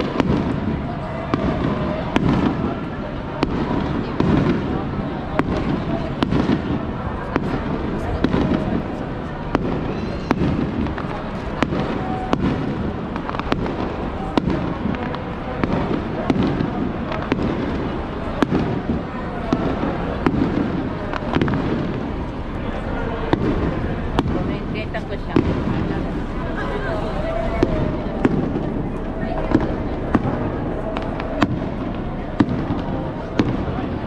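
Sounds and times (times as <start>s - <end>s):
crowd murmur: 0.0s - 34.0s
fireworks bursting with sharp bangs: 0.0s - 34.0s.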